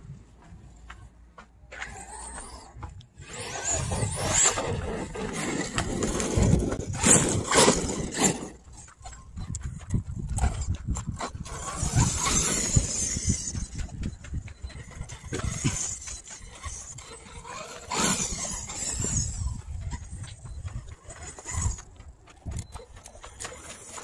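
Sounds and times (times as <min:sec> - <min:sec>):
tyres crunching on dirt: 0:00.0 - 0:24.0.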